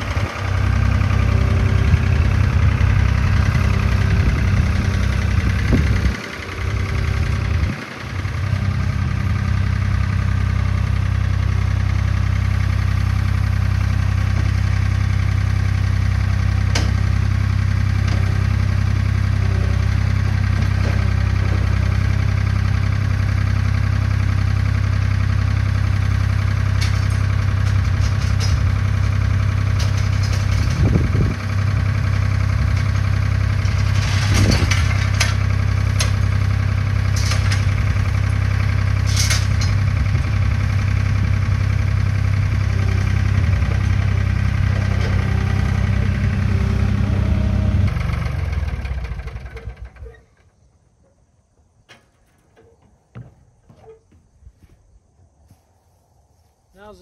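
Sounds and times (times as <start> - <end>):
engine idling: 0.0 - 54.2.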